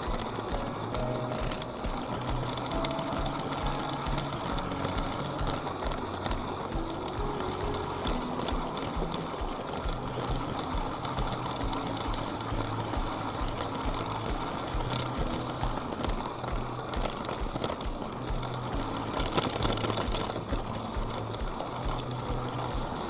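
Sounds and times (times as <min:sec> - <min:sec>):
toy train electric motor: 0:00.0 - 0:23.0
wheels clicking over track joints: 0:00.0 - 0:23.0.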